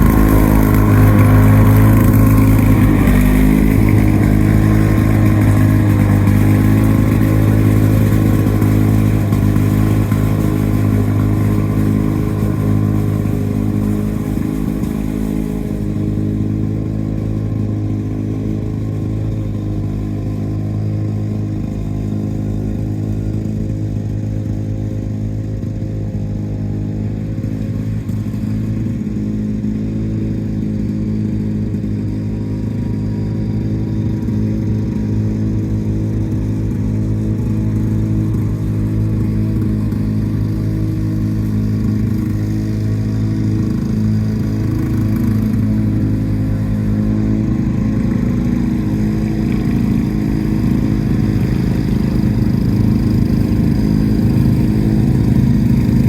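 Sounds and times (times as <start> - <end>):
mower engine running: 0.0 - 56.0.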